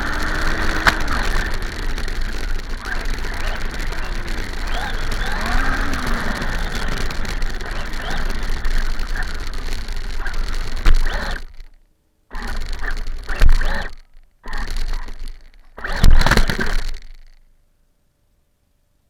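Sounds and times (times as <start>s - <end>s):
rc car rattling drive noise: 0.0s - 17.4s.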